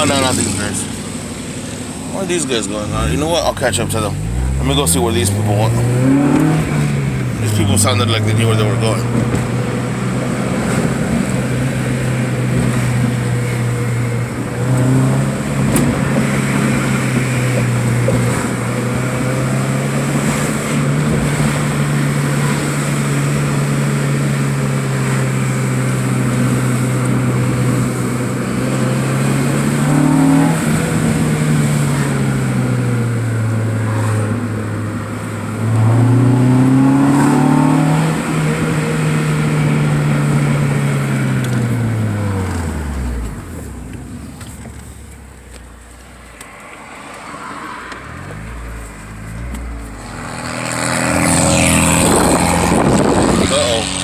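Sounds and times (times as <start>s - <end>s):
car engine humming while driving: 0.0s - 54.0s.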